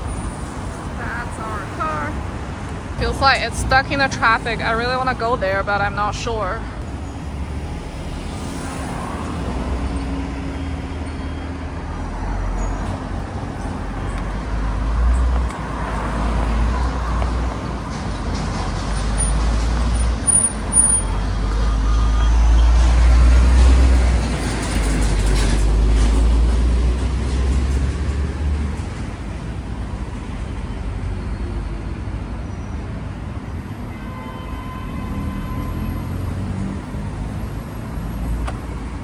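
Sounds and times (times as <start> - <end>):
deep traffic rumble: 0.0 - 39.0
vehicles passing: 0.0 - 39.0.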